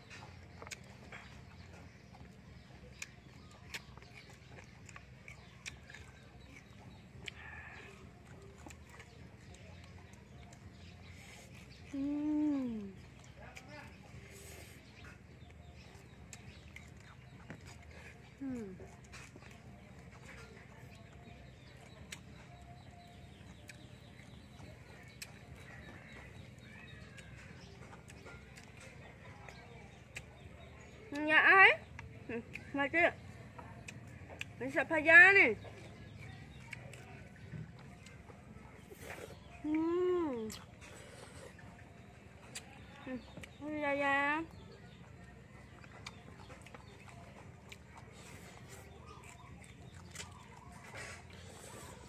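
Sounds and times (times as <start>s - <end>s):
soft chewing: 0.0s - 52.0s.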